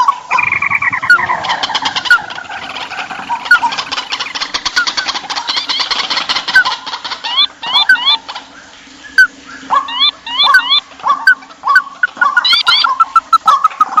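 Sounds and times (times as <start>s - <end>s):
flock of small birds chirping: 0.0s - 14.0s.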